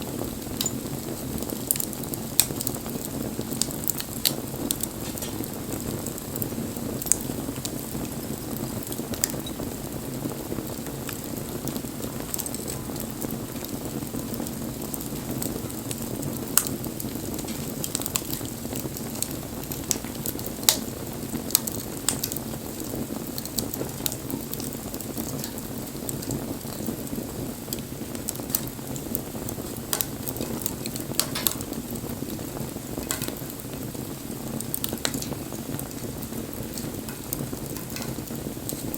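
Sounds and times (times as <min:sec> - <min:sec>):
burning wood crackling and popping: 0:00.0 - 0:38.9
low rush of flames: 0:00.0 - 0:38.9.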